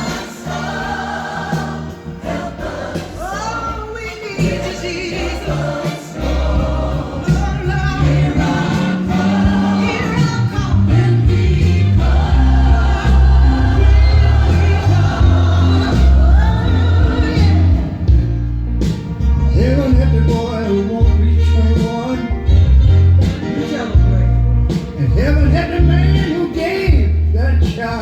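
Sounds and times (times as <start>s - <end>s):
bass line: 0.0s - 28.0s
choir singing gospel music: 0.0s - 28.0s.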